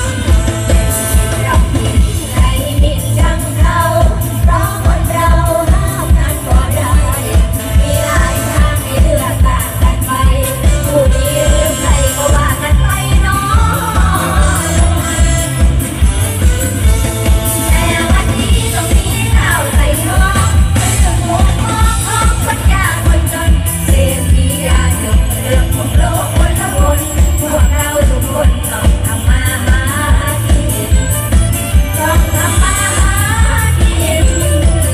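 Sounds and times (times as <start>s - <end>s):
live band music over a pa: 0.0s - 34.9s
people singing: 1.0s - 15.8s, 17.7s - 30.9s.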